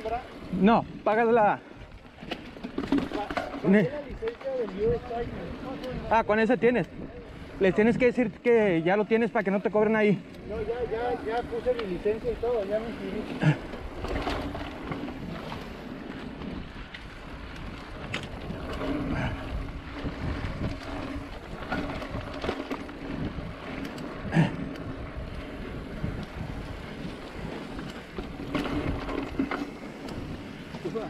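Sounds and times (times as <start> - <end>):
bike rattling over bumps: 0.0 - 31.0
wind buffeting microphone: 3.8 - 8.2, 10.3 - 31.0.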